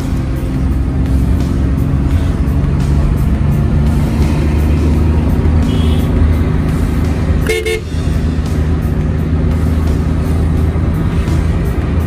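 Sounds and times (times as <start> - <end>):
background music: 0.0 - 12.0
vehicle engine and road noise: 0.0 - 12.0.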